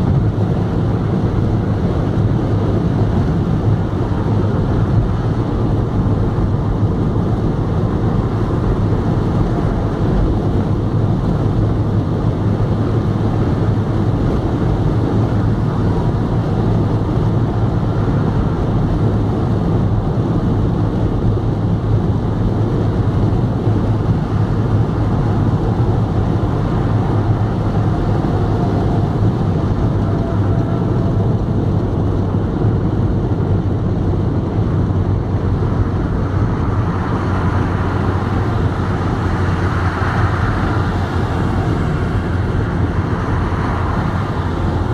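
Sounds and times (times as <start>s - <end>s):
car cabin drone: 0.0s - 44.9s.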